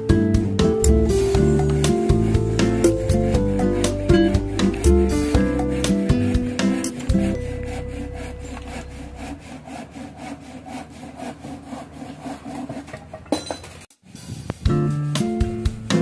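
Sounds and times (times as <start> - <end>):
hand saw cutting wood: 1.0 - 13.9.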